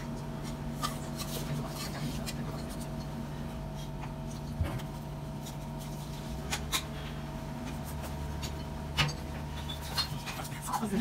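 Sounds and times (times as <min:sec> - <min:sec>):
kitchen equipment humming: 0:00.0 - 0:11.0.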